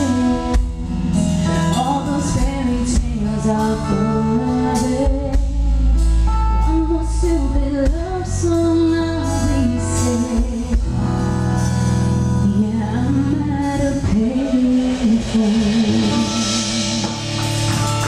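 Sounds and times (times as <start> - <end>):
woman singing: 0.0 - 17.6
guitar and band accompaniment: 0.0 - 18.0.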